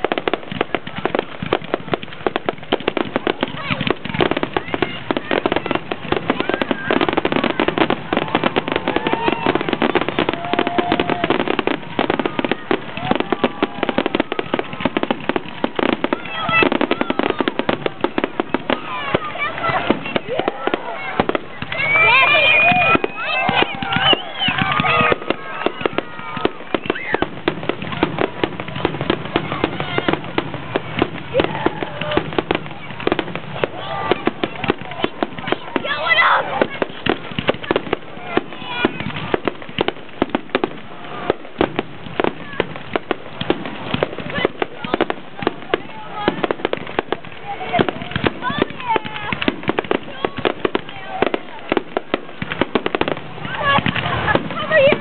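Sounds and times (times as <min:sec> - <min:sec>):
fireworks bursts and crackle: 0:00.0 - 0:55.0.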